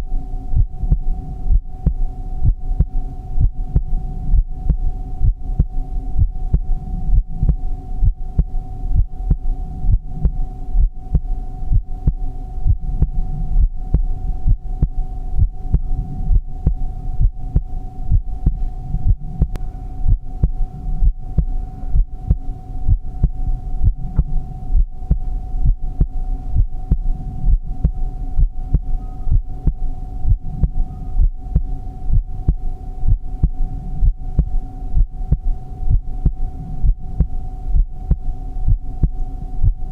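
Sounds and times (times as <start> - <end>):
constant hum: 0.0 - 39.9
heartbeat thumping: 0.0 - 39.9.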